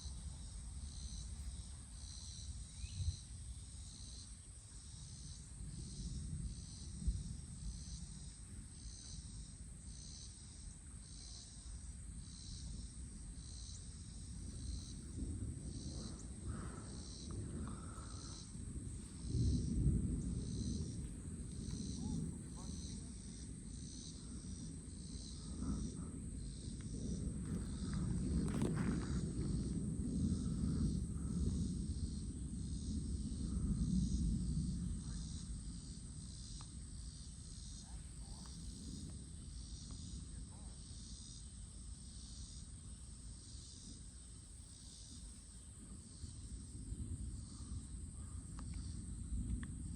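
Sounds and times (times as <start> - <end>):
wind buffeting microphone: 0.0 - 44.1, 45.1 - 49.9
insect pulsing chirp: 0.0 - 49.9
insects buzzing: 0.0 - 49.9
low steady rumble: 0.0 - 49.9.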